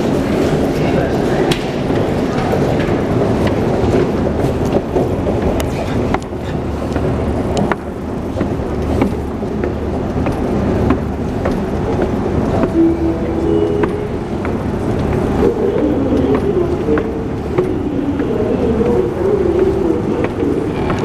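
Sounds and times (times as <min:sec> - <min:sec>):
escalator rumbling: 0:00.0 - 0:21.0
footsteps on metal steps: 0:02.4 - 0:21.0.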